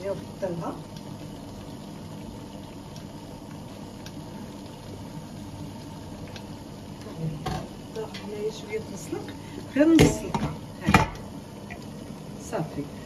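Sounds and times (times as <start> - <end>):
water coming to the boil: 0.0 - 13.0.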